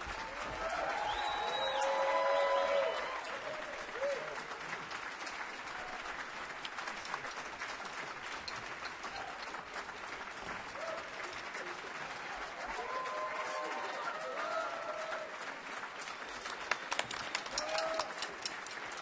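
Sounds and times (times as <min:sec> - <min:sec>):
audience applauding: 0:00.0 - 0:19.0
people cheering: 0:00.0 - 0:19.0.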